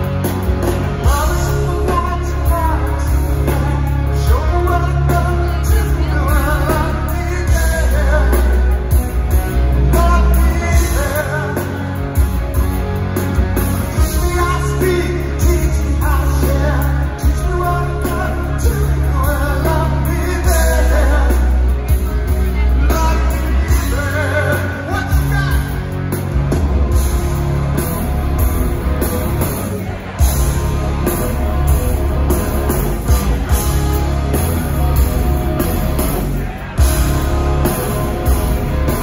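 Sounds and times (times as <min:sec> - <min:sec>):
rock band playing live: 0:00.0 - 0:39.0.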